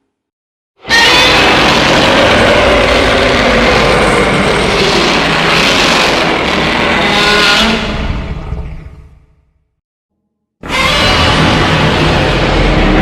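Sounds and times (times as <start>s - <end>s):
harsh noisy sound effect: 0.8s - 9.2s, 10.6s - 13.0s.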